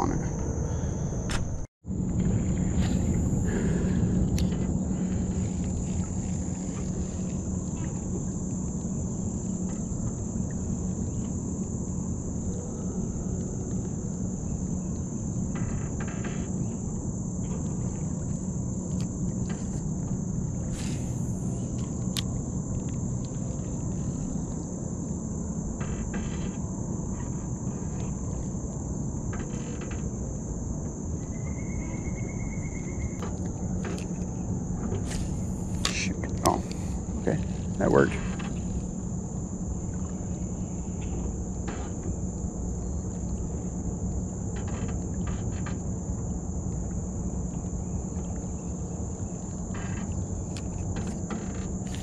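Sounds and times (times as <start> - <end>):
low hum and rumble: 0.0 - 52.0
high-pitched insect chorus: 2.4 - 45.7, 47.1 - 52.0.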